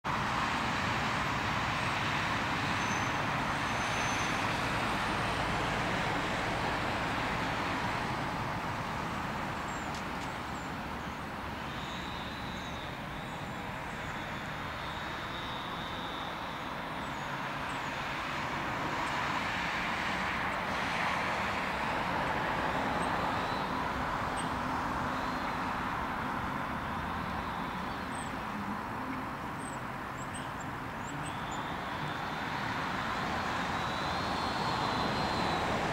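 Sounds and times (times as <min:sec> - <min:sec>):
road traffic noise: 0:00.0 - 0:35.9.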